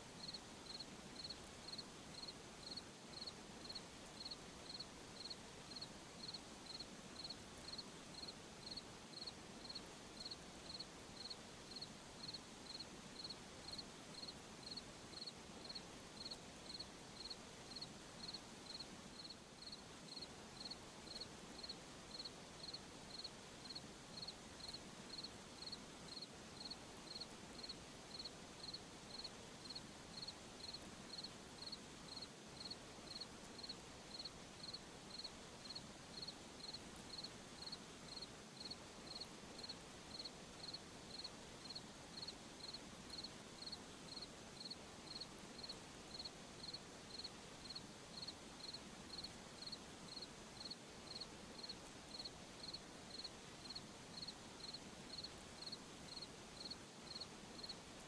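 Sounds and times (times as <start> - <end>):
faint background hiss: 0.0 - 58.0
cricket chirping: 0.2 - 57.8.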